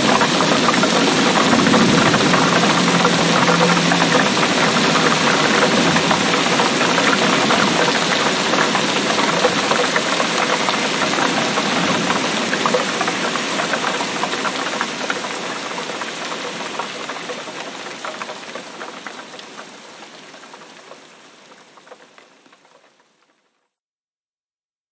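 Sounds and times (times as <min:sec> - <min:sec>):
heavy rain falling: 0:00.0 - 0:23.4.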